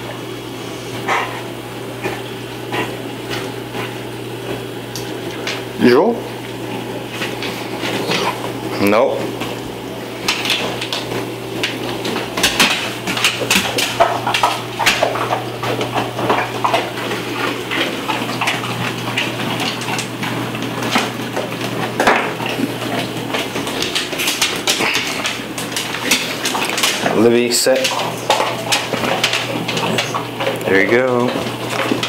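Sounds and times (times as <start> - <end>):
dog gnawing a bone: 0.5 - 32.0.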